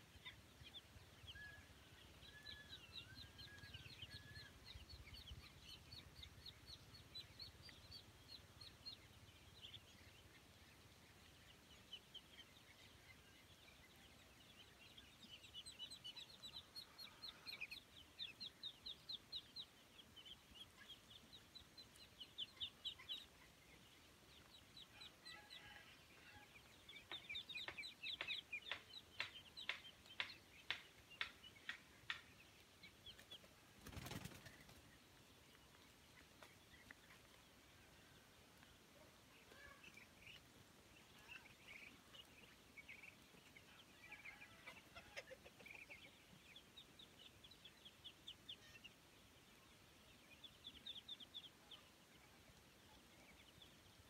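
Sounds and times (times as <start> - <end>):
ducklings and chicks peeping: 0.0 - 54.0.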